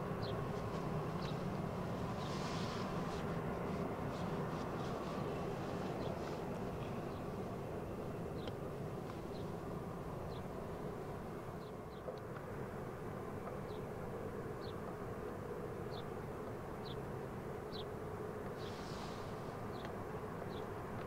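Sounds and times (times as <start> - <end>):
distant jet engines droning: 0.0 - 21.0.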